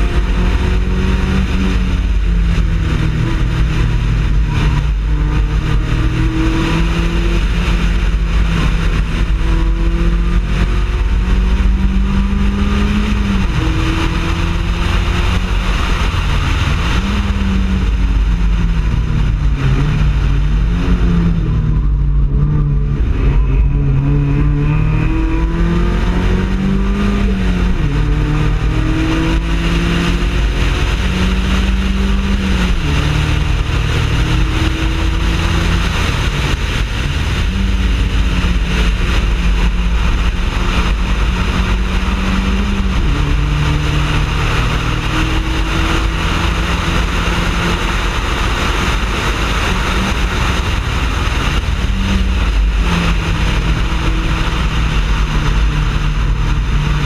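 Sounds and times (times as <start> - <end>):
race car engine revving and shifting: 0.0 - 57.0
wind and road noise: 0.0 - 57.0.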